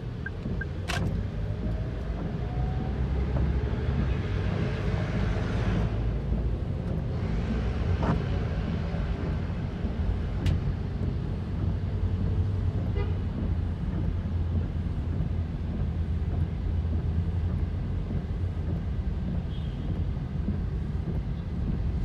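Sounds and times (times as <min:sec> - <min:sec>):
traffic engines rumbling: 0:00.0 - 0:22.0.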